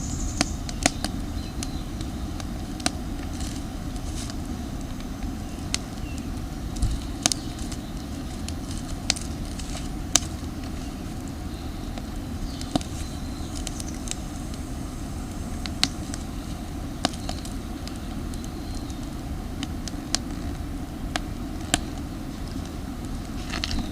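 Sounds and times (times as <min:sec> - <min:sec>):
campfire crackling: 0:00.0 - 0:23.9
fire popping: 0:00.0 - 0:23.9
low rush of fire: 0:00.0 - 0:23.9.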